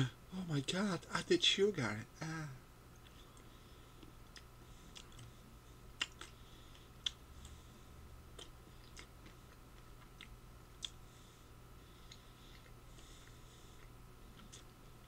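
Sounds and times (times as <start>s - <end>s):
faint steady hum: 0.0s - 15.0s
man chewing chocolate: 2.9s - 15.0s.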